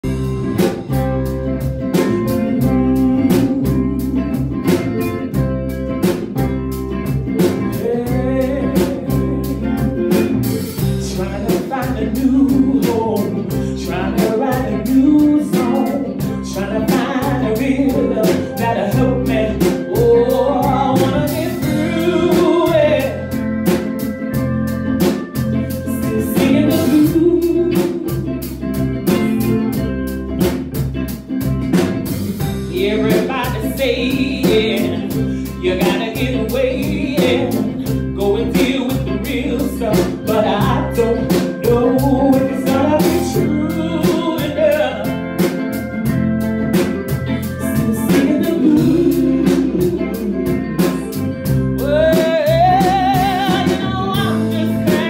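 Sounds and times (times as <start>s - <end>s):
bending melody line: 0.0s - 55.0s
drum kit beat: 0.0s - 55.0s
live blues band playing: 0.0s - 55.0s.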